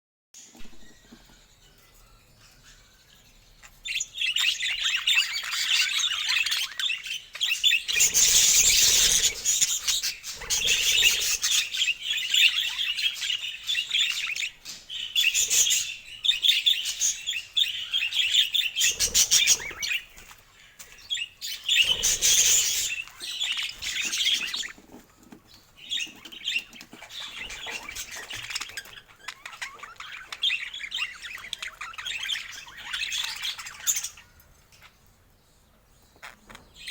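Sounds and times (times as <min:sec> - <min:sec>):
budgerigars chattering: 0:03.6 - 0:35.0.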